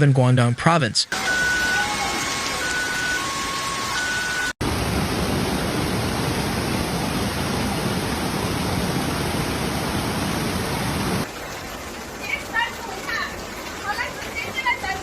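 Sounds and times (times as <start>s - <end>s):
heavy rain hiss: 1.1s - 15.0s.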